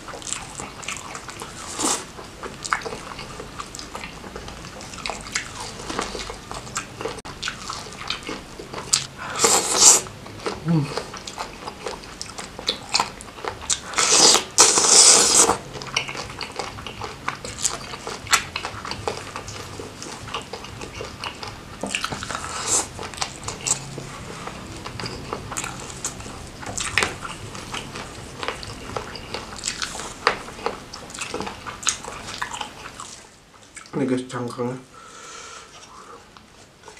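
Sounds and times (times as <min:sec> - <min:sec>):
crunching and chewing: 0:00.0 - 0:34.0, 0:35.7 - 0:36.9.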